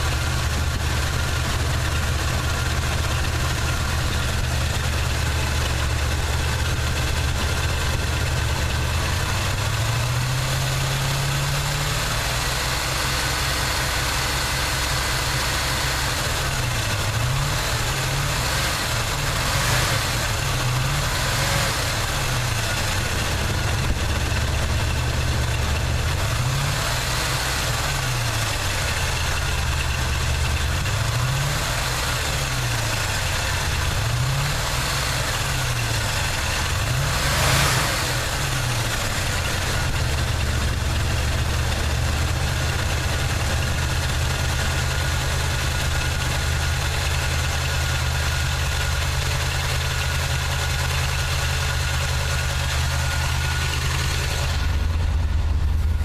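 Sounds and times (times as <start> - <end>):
truck engine misfiring: 0.0 - 56.0.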